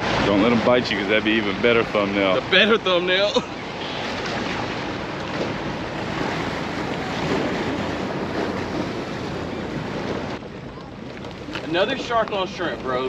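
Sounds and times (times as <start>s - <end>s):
surf washing against jetty: 0.0s - 13.0s.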